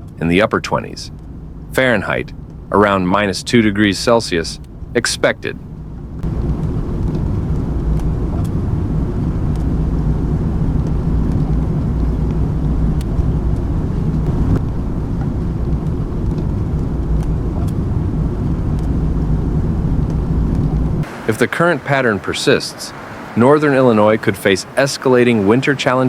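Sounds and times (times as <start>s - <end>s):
low rumble of road vehicles: 0.0s - 26.0s.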